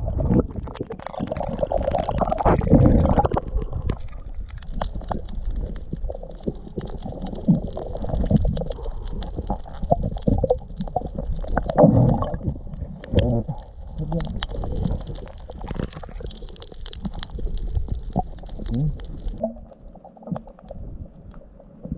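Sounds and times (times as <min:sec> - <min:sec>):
bubbling and gurgles: 0:00.0 - 0:21.9
underwater rumbling water: 0:00.0 - 0:21.9
underwater clicks: 0:00.2 - 0:21.9.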